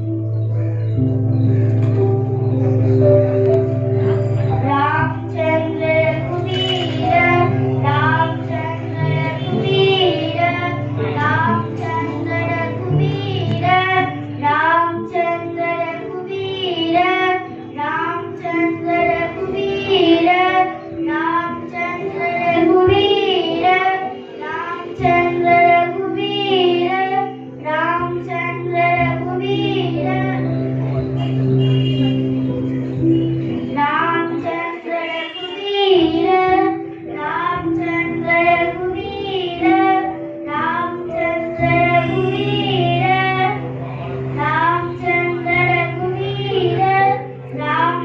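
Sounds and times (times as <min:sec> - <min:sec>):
instrumental backing: 0:00.0 - 0:48.0.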